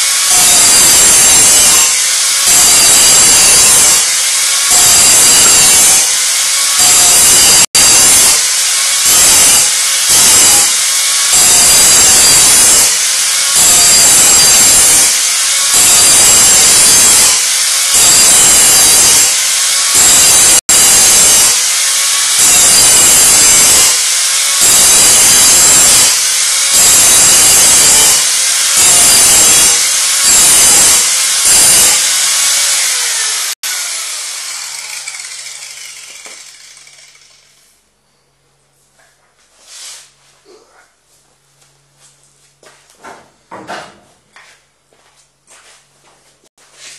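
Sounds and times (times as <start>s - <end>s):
angle grinder cutting steel: 0.0s - 37.8s.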